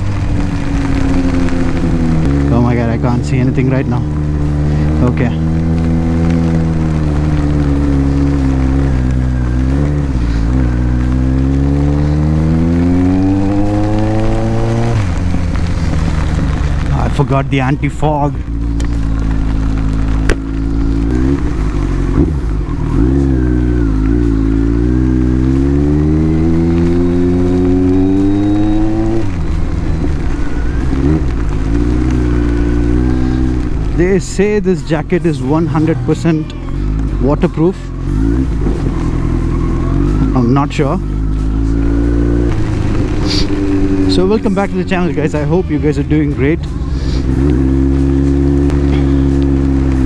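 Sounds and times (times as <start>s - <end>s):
motorcycle engine accelerating: 0.0s - 50.0s.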